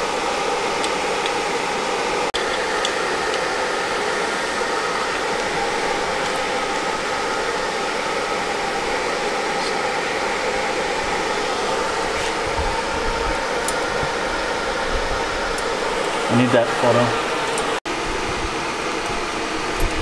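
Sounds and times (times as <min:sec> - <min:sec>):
blower running steadily: 0:00.0 - 0:20.0.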